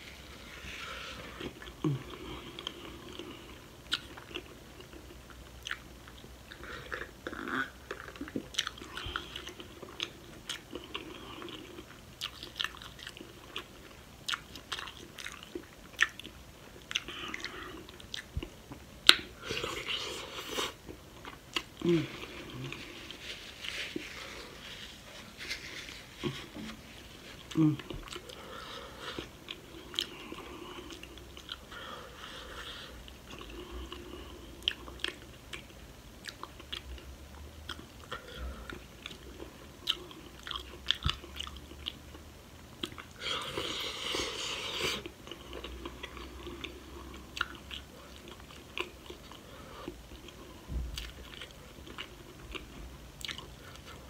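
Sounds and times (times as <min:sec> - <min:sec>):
close chewing and wet mouth sounds: 0:00.1 - 0:54.0.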